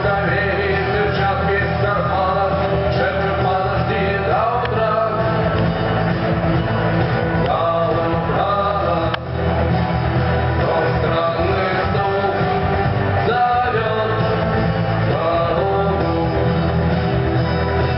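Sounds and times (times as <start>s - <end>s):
rock band playing: 0.0s - 17.9s.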